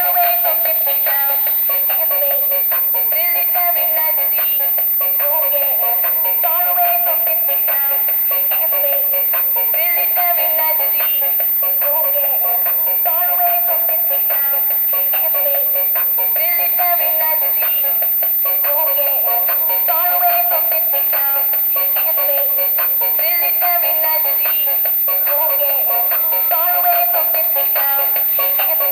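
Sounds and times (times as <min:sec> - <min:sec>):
melodic tune with steady beat: 0:00.0 - 0:28.9.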